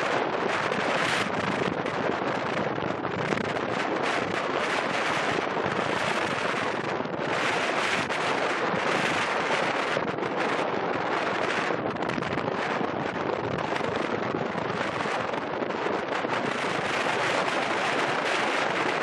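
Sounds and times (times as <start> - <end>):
choppy sea water: 0.0 - 19.0
wind buffeting microphone: 0.0 - 19.0.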